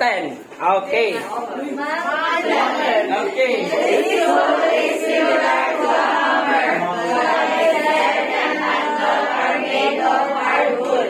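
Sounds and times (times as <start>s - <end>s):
students reading aloud in unison: 0.6s - 11.0s.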